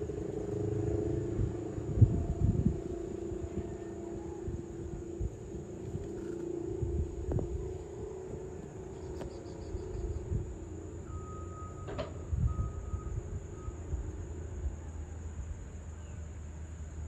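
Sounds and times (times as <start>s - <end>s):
low steady drone: 0.0s - 17.0s.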